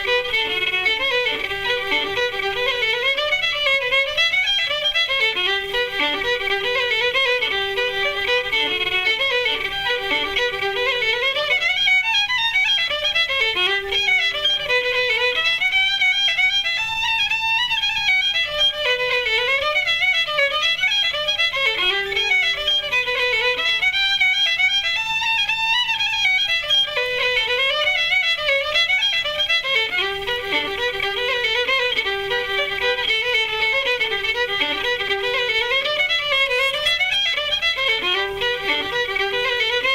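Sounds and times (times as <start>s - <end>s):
fiddle melody: 0.0s - 39.9s.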